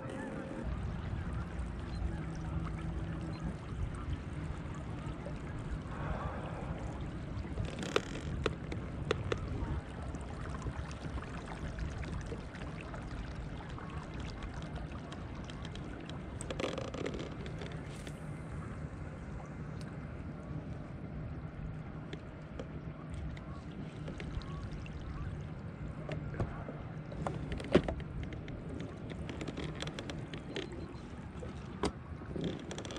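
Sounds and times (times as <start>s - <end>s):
low rumble of kayak motor: 0.0s - 32.9s
water along the hull: 0.0s - 32.9s.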